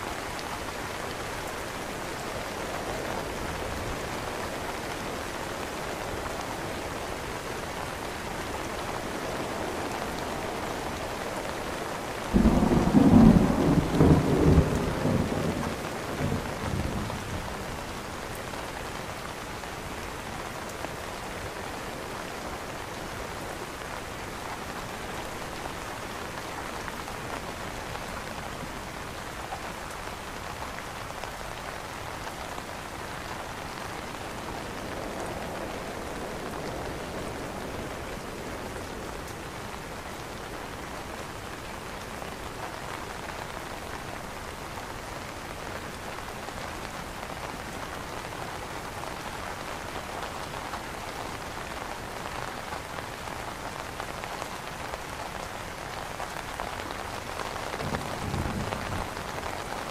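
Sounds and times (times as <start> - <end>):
rain on an umbrella: 0.0 - 59.9.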